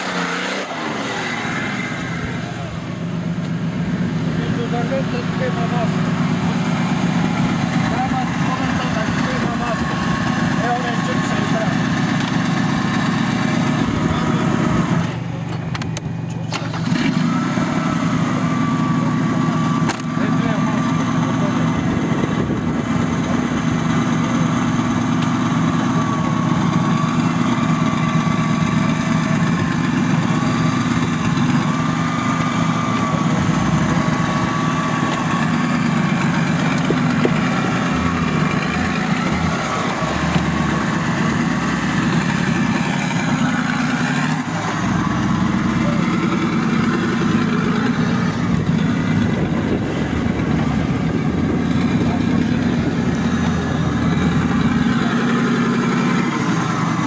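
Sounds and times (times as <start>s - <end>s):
engine idling close by: 0.0s - 57.0s.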